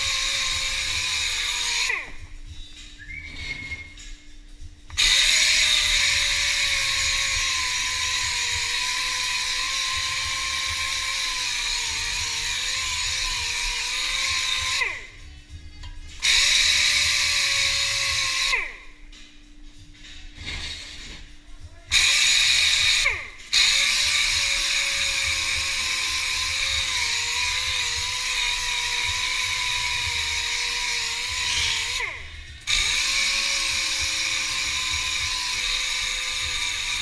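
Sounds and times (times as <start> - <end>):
power tool whining: 0.0 - 2.4, 4.9 - 15.3, 16.2 - 18.9, 21.9 - 37.0.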